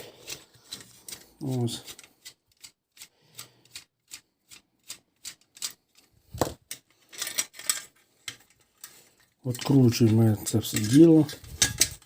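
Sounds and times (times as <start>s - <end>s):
plastic and metal parts clicking: 0.1s - 12.0s.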